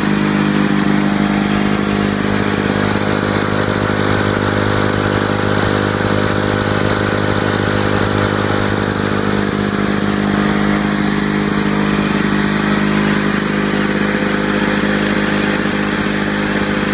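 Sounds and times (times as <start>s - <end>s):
lawn mower engine running: 0.0s - 16.9s.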